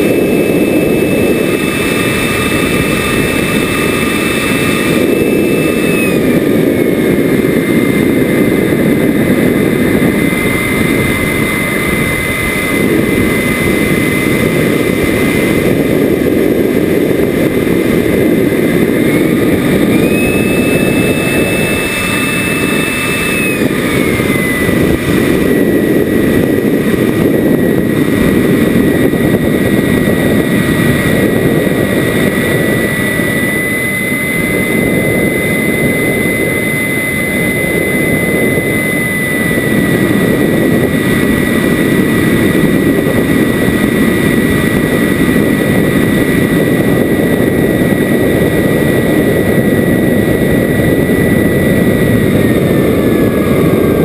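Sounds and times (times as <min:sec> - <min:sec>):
high motor whine: 0:00.0 - 0:54.0
wind rushing over microphone: 0:00.0 - 0:54.0.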